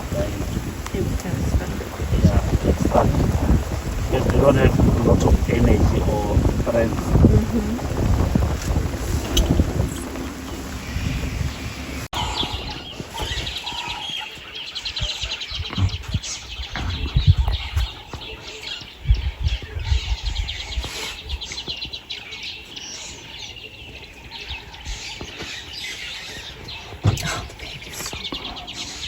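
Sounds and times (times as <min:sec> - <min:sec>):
small birds chirping: 0:00.0 - 0:29.0
wind gusting on microphone: 0:00.0 - 0:29.0.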